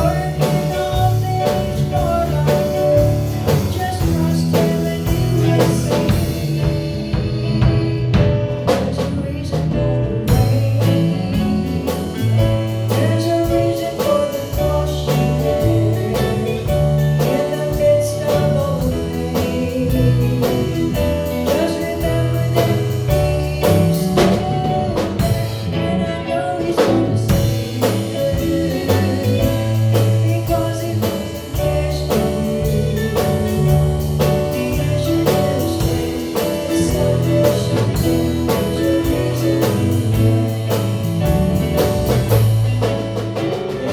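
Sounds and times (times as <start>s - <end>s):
drum kit steady beat: 0.0s - 43.9s
gospel band playing: 0.0s - 43.9s
person singing: 0.0s - 43.9s.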